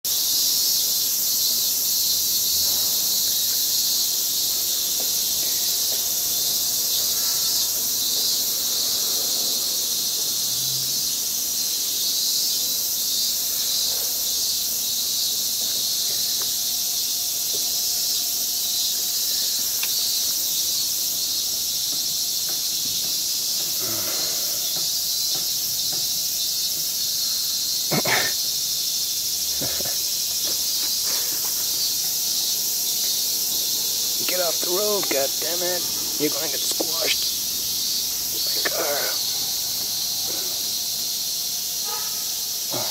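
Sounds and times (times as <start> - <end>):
night insects chorus: 0.1 - 42.9.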